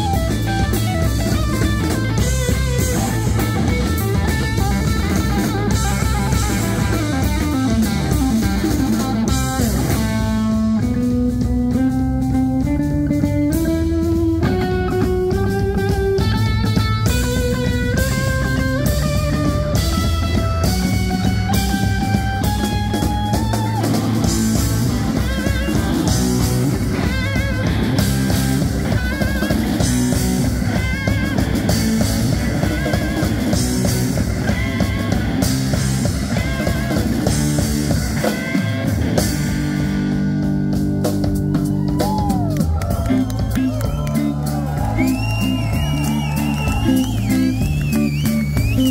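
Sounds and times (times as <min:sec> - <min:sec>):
drum kit: 0:00.0 - 0:48.9
lead electric guitar: 0:00.0 - 0:48.9.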